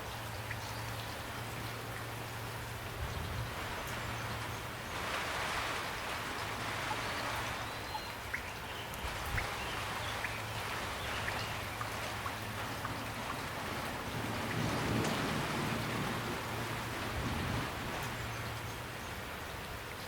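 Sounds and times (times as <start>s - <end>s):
raindrops ticking close by: 0.0s - 20.0s
steady rain falling: 0.0s - 20.0s.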